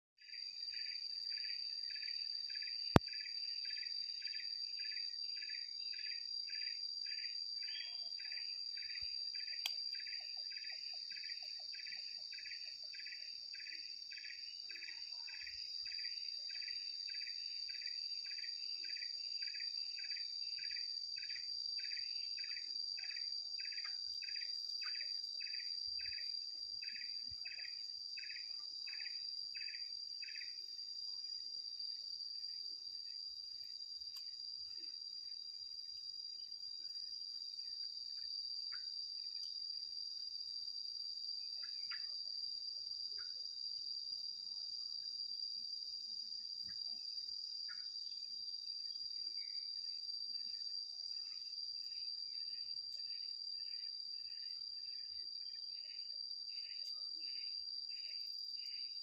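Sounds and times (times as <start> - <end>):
insect pulsed chirp: 0.2 - 59.0
insects droning: 0.2 - 59.0.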